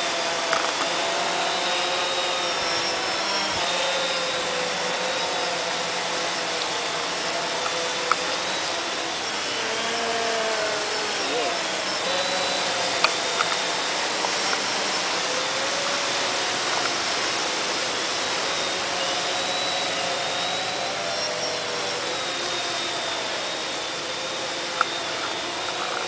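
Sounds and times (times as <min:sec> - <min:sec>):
quadcopter propellers whirring: 0:00.0 - 0:26.0.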